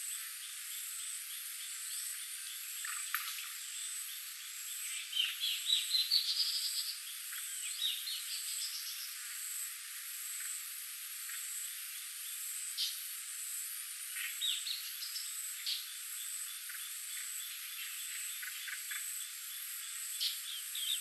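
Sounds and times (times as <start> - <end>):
insects buzzing high pitched: 0.0 - 21.0.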